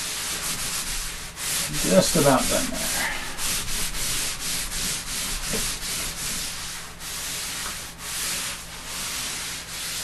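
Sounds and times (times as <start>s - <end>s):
eraser rubbing on paper: 0.0s - 10.0s.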